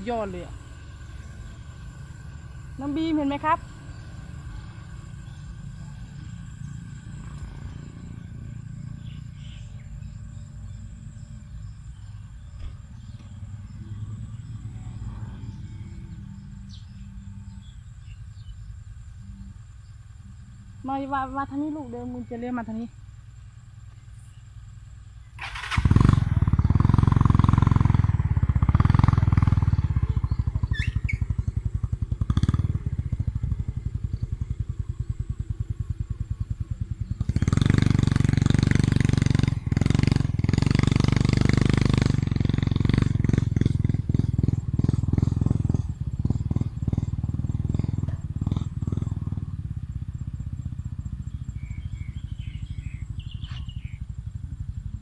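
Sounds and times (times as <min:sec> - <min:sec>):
diesel engine revving: 0:00.0 - 0:22.9, 0:25.2 - 0:55.0.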